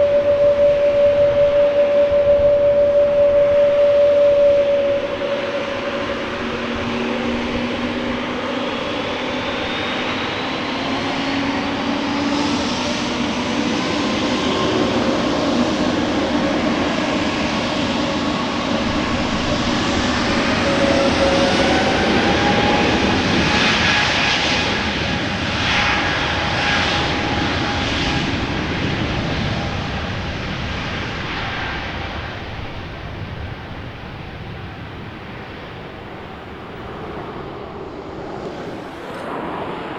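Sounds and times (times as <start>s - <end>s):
airliner engine roar: 0.0s - 39.9s.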